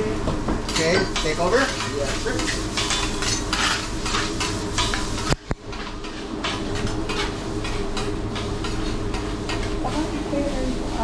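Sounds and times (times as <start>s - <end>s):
garlic sizzling on griddle: 0.0s - 11.0s
steady low hum: 0.0s - 11.0s
metal spatulas scraping and tapping: 0.7s - 10.1s.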